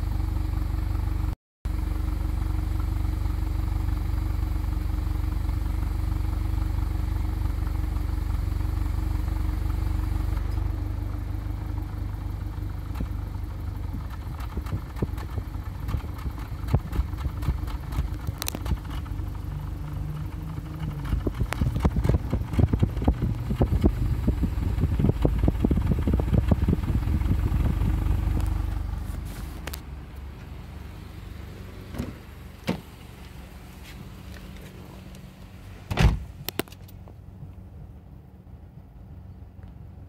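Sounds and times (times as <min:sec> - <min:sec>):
car exhaust idling with pops: 0:00.0 - 0:37.8.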